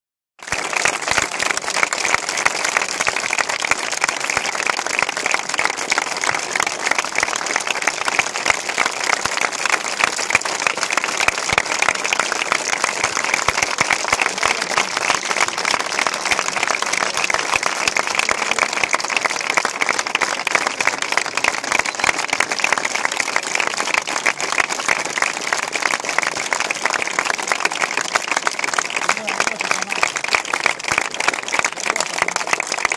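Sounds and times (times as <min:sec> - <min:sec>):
crowd applauding: 0:00.4 - 0:32.9.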